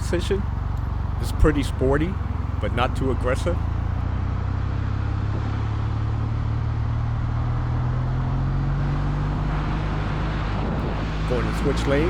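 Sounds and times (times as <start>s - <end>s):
motorcycle engine at speed: 0.0s - 12.0s
wind and road noise: 0.0s - 12.0s.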